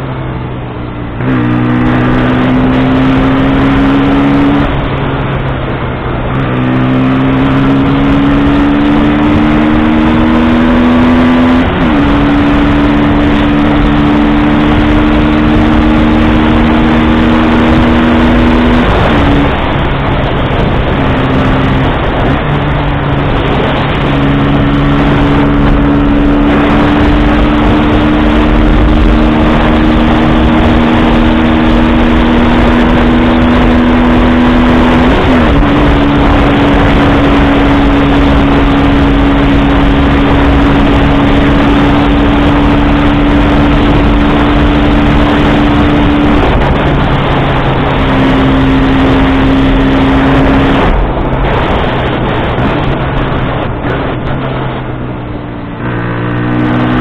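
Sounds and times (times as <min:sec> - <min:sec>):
motorcycle engine at road speed: 0:00.0 - 0:57.0
wind rush on microphone: 0:00.0 - 0:57.0.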